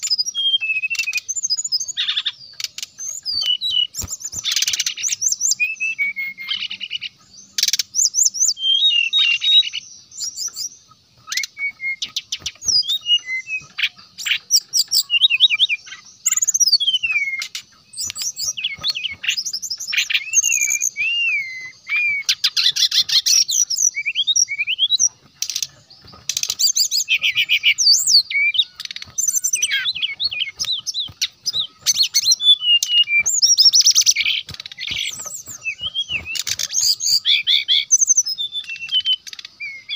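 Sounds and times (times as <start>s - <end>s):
flycatcher singing trills and whistles: 0.0s - 39.9s.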